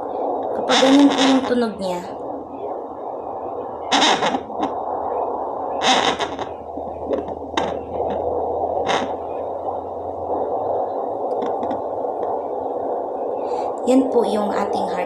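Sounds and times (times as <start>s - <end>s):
slow heartbeat: 0.0s - 1.1s, 2.1s - 13.4s
doppler speaker hiss: 0.0s - 15.0s.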